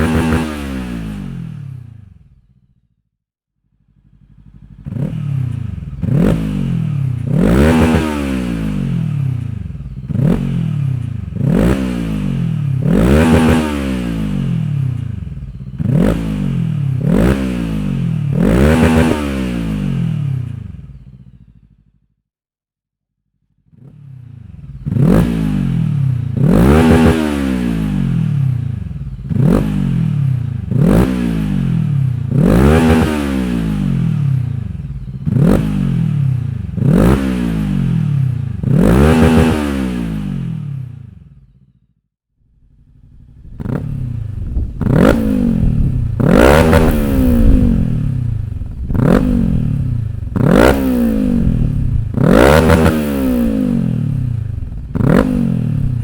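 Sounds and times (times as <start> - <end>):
motorcycle engine revving: 0.0 - 2.8, 3.7 - 22.0, 23.5 - 41.8, 42.5 - 56.0.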